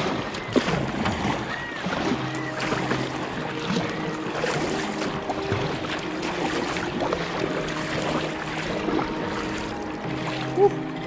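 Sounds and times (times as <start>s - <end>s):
water lapping and splashing: 0.0s - 11.0s.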